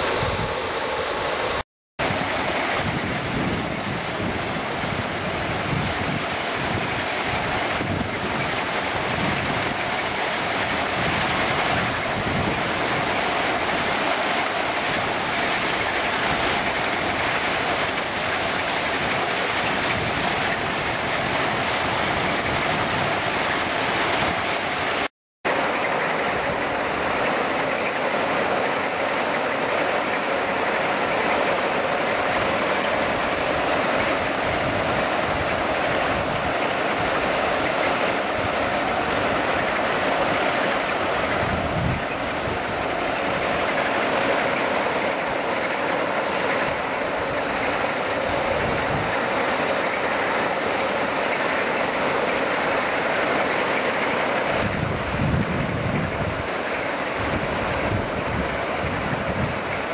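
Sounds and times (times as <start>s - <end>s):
engine noise: 0.0s - 59.9s.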